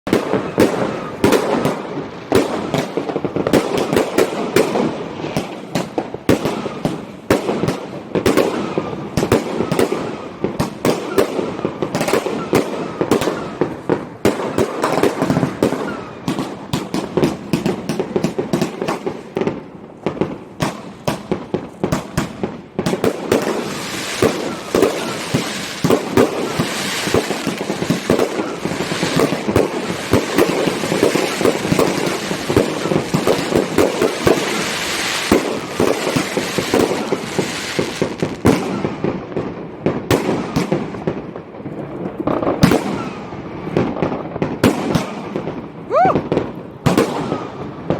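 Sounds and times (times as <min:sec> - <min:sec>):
crackling firecrackers: 0:00.0 - 0:47.9
fireworks bangs: 0:00.1 - 0:47.9.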